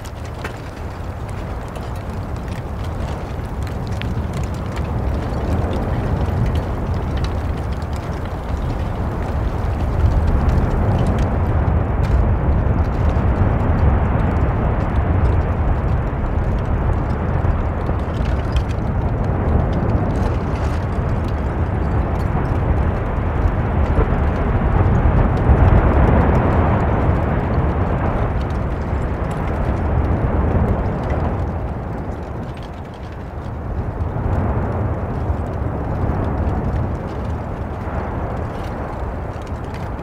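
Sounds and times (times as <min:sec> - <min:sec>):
faint crackles: 0:00.0 - 0:40.0
volcanic rumbling roar: 0:00.0 - 0:40.0.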